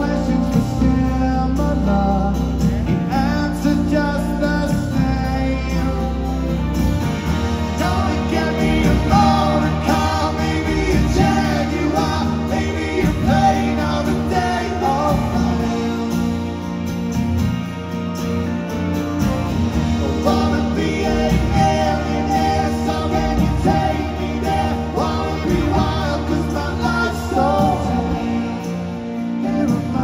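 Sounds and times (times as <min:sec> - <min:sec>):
man singing: 0:00.0 - 0:06.7, 0:07.6 - 0:16.8, 0:19.9 - 0:30.0
bass guitar: 0:00.0 - 0:30.0
drums: 0:00.0 - 0:30.0
electric guitar: 0:00.0 - 0:30.0
strummed acoustic guitar: 0:00.0 - 0:30.0.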